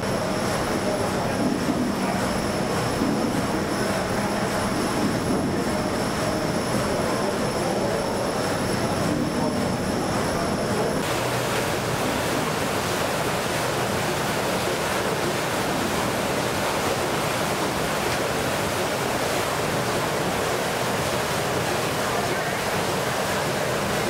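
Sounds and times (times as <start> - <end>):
engine-room hum with whine: 0.0 - 24.0
scoop wheel churning water: 0.0 - 24.0.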